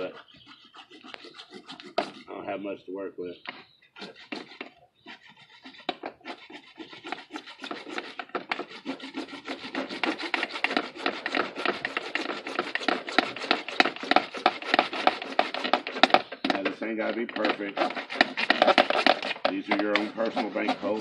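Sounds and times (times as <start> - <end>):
hand saw cutting plastic pipe: 0.0 - 2.4, 4.0 - 21.0.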